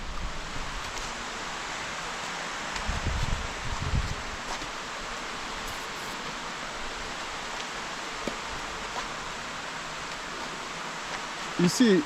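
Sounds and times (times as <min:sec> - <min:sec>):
rush of running water: 0:00.0 - 0:12.0.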